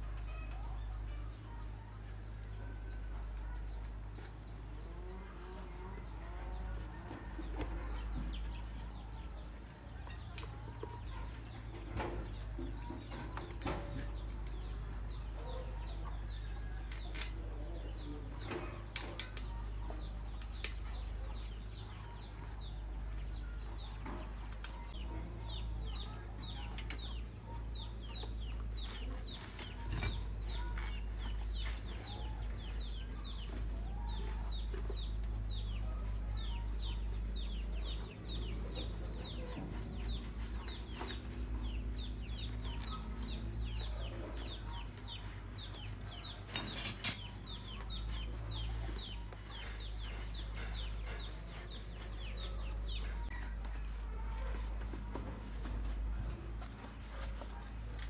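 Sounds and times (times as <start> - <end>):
birds chirping and clucking: 0.0 - 58.0.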